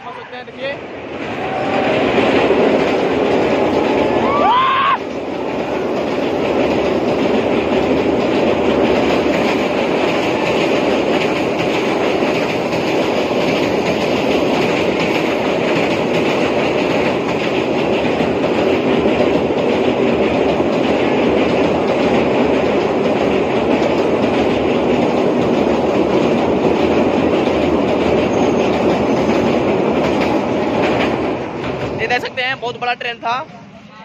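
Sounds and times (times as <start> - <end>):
train crossing steel bridge: 0.0 - 34.0.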